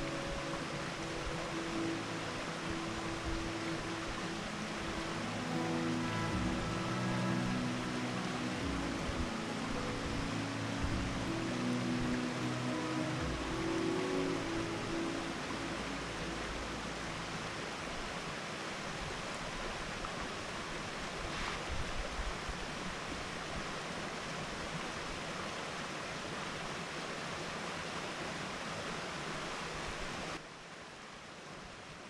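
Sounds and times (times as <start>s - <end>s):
steady rushing outdoor noise: 0.0s - 31.0s.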